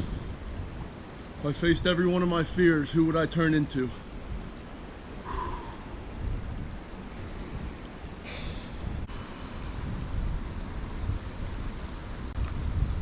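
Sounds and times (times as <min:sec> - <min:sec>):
wind buffeting microphone: 0:00.0 - 0:13.0
steady hiss: 0:01.0 - 0:12.8.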